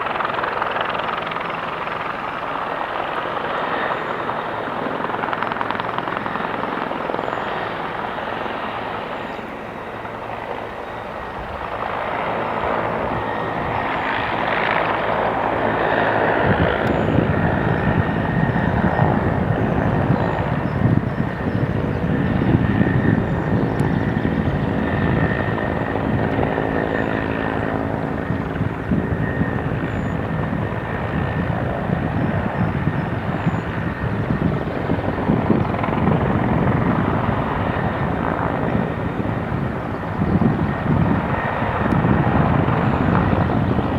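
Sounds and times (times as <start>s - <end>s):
helicopter rotor and turbines: 0.0s - 43.9s.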